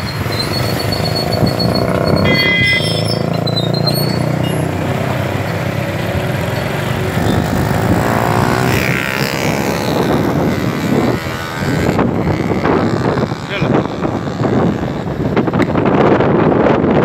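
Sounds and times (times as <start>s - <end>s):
traffic engine and road noise: 0.0s - 17.0s.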